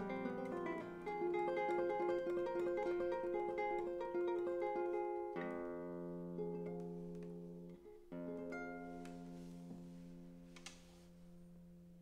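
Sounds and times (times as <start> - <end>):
classical guitar chords: 0.0 - 12.0.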